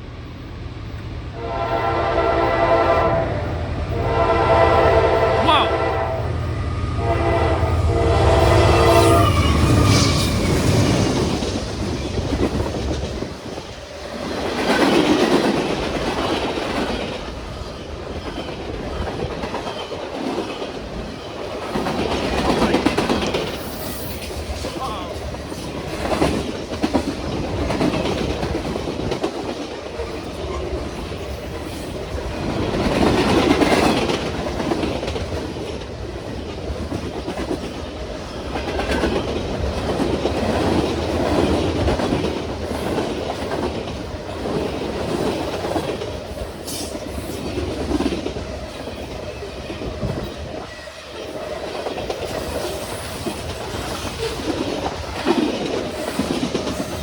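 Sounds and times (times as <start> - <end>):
train wheels rushing on rail: 0.0 - 57.0.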